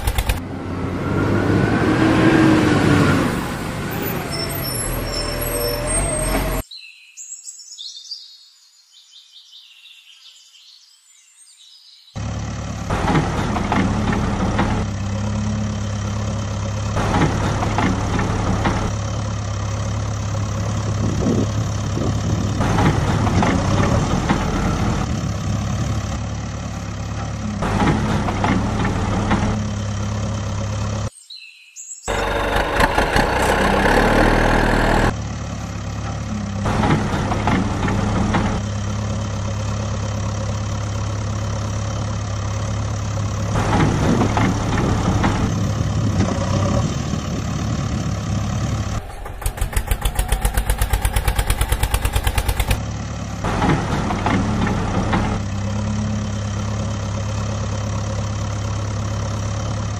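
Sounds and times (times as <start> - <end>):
heavy vehicle engine running: 0.0 - 6.6, 12.2 - 31.1, 32.1 - 59.9.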